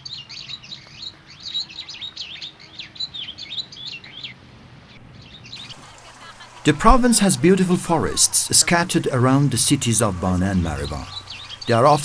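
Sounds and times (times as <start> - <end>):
small songbirds chirping: 0.0 - 12.0.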